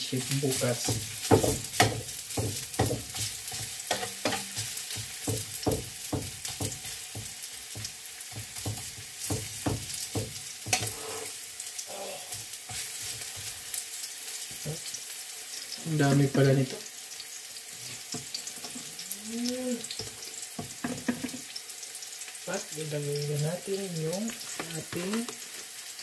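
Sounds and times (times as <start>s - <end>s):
food sizzling in frying pan: 0.0s - 26.0s.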